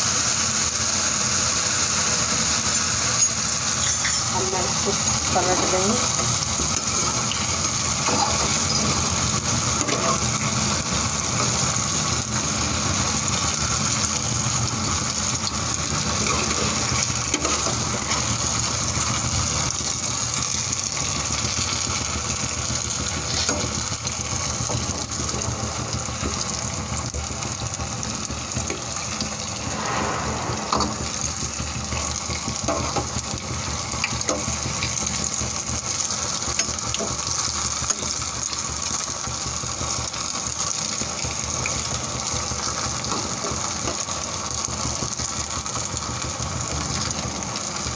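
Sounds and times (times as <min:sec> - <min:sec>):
fritters sizzling in hot oil: 0:00.0 - 0:47.9.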